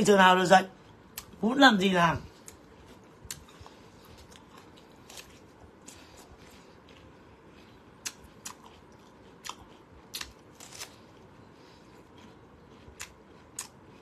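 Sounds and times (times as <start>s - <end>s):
crunchy food chewing: 2.2s - 14.0s.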